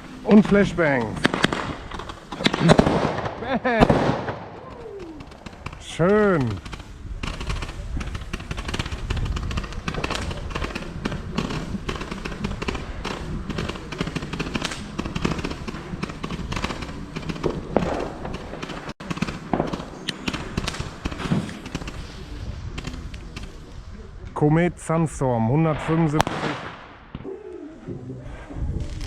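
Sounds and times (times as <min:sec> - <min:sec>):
firecracker bangs and crackling: 0:00.0 - 0:23.7, 0:25.6 - 0:27.3.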